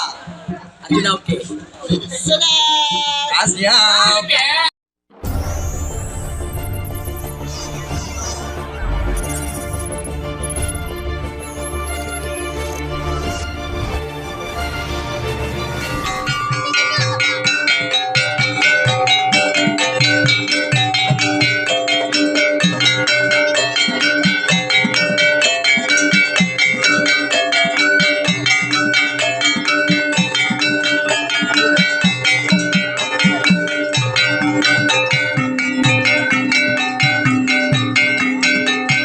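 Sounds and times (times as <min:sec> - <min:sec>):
metallophones ringing: 0:05.2 - 0:13.5, 0:14.5 - 0:39.0.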